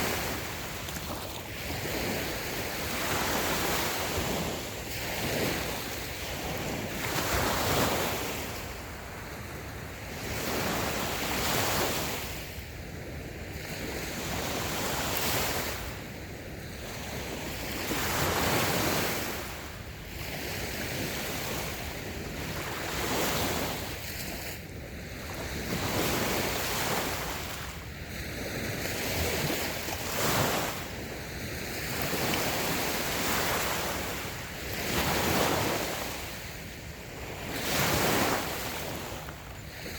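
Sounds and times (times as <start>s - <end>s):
small waves washing up beach: 0.0s - 39.9s.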